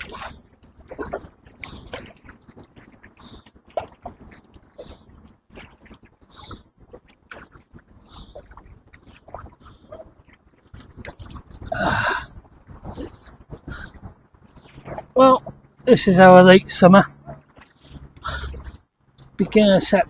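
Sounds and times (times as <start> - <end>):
paddle splashing in water: 0.0 - 15.8, 17.1 - 19.9.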